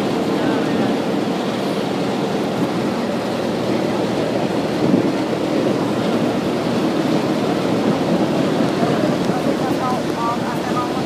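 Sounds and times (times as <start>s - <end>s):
boat motor running: 0.0s - 11.0s
water along hull: 0.0s - 11.0s
wind on microphone: 0.0s - 11.0s.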